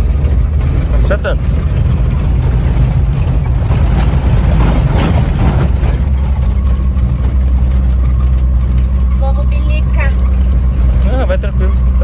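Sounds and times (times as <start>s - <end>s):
van engine droning: 0.0s - 12.0s
van rattling over rough road: 0.0s - 12.0s.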